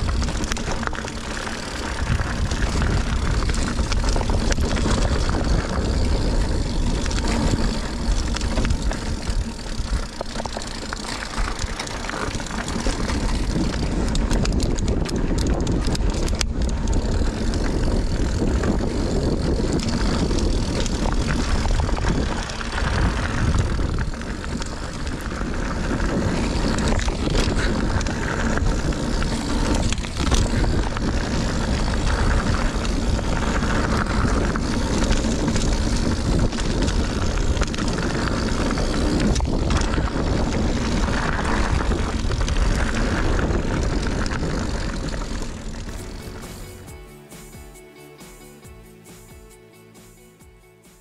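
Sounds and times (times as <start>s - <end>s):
wind rumble on microphone: 0.0s - 46.8s
bike knocks and rattles: 0.0s - 47.0s
tyre noise on dirt: 0.0s - 49.5s.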